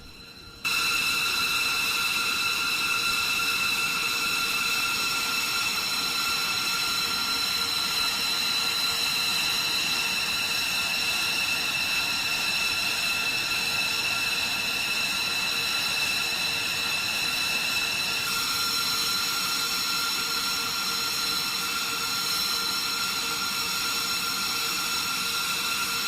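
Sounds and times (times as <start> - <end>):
jet engine turbine whine: 0.0 - 26.0.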